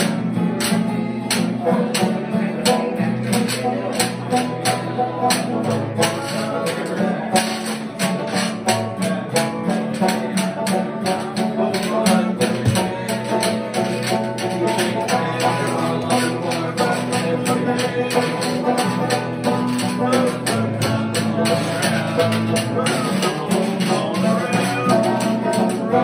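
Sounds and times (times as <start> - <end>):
acoustic guitar: 0.0 - 26.0
banjo: 0.0 - 26.0.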